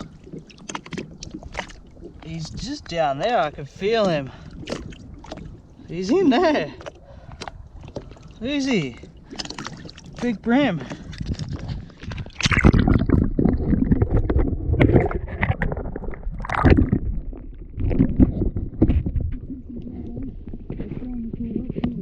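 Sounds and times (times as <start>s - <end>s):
underwater sloshing and gurgling: 0.0s - 22.0s.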